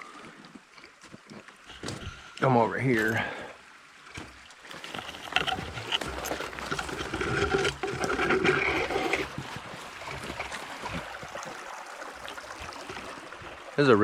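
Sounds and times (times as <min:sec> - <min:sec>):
creek running and trickling: 0:00.0 - 0:14.0.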